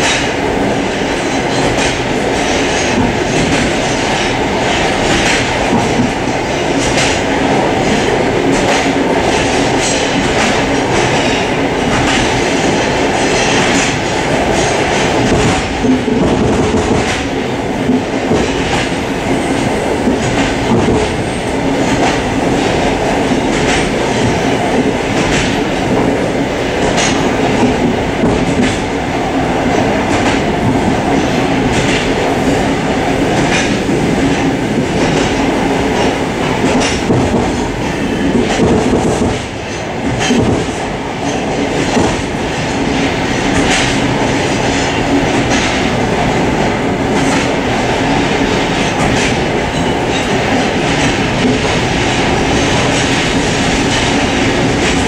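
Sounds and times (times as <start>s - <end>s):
wheels clacking over rail joints: 0.0s - 29.0s, 29.6s - 55.0s
train wheels rumbling: 0.0s - 55.0s.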